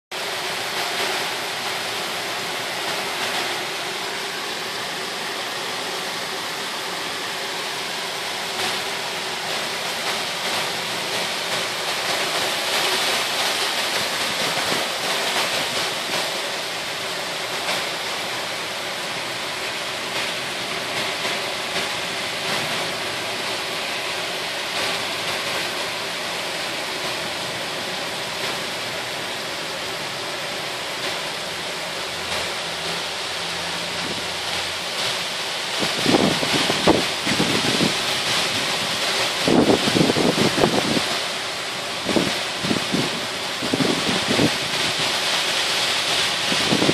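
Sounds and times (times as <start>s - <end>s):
heavy rain pouring: 0.1s - 46.9s.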